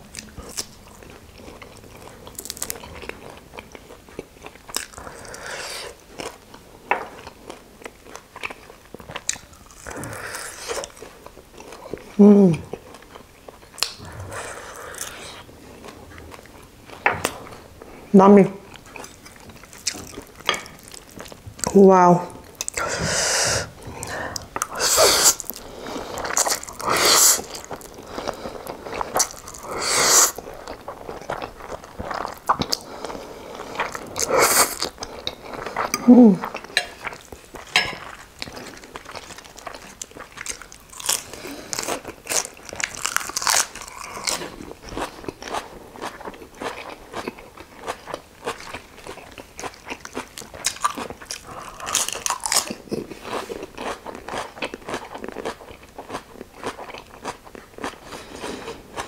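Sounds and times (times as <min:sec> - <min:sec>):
crunching and chewing: 0:00.0 - 0:18.0, 0:18.7 - 0:21.8, 0:23.8 - 0:59.0.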